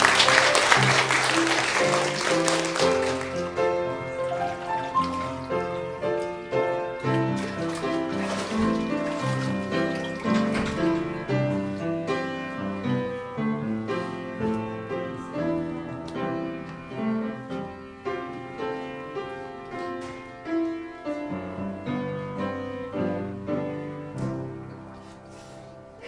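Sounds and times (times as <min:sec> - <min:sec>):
slow piano music: 0:00.0 - 0:26.0.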